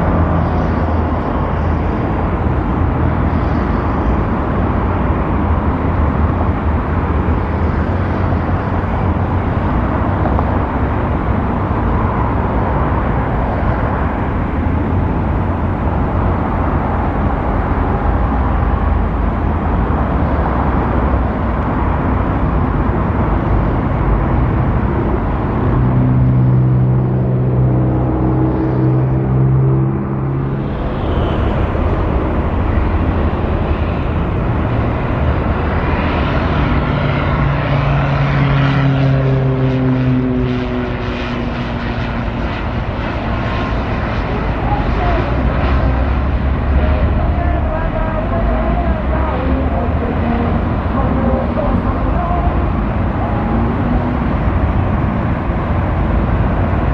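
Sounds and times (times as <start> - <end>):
constant noisy roar: 0.0 - 56.9
engine rumble: 0.0 - 56.9
steady pitched drone: 0.0 - 56.9.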